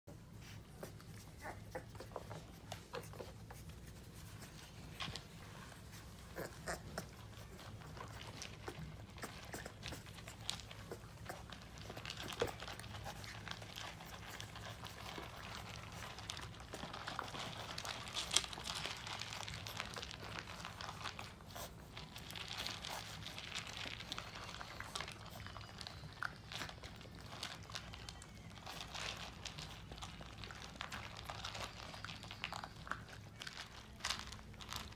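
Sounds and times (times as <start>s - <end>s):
puppies crunching dry kibble: 0.1s - 34.9s.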